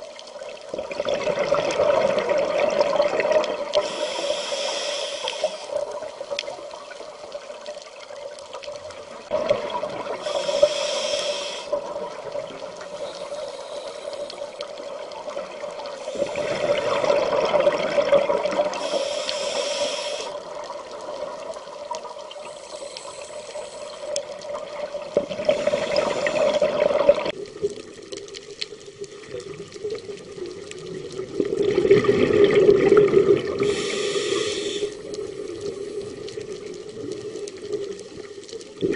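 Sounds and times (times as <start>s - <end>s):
regulator bubbling and hissing: 0.0s - 7.6s, 8.9s - 38.9s.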